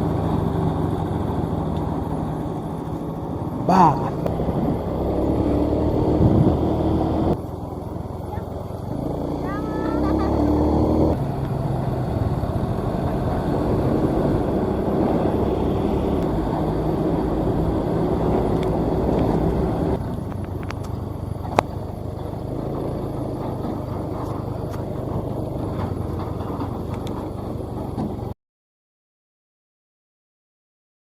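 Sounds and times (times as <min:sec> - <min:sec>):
combine harvester engine running: 0:00.0 - 0:28.4.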